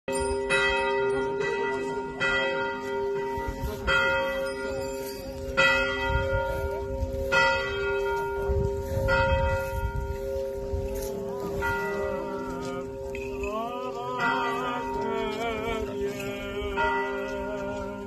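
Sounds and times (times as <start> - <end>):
church bell ringing: 0.1 - 18.0.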